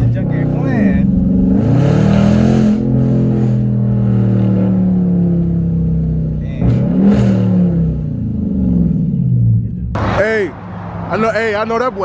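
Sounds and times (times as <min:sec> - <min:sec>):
car exhaust revving: 0:00.0 - 0:12.0.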